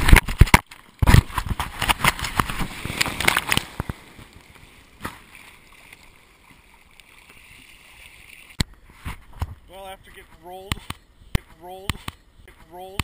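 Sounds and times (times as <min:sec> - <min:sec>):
surf splashing and bubbling: 0:00.0 - 0:11.5.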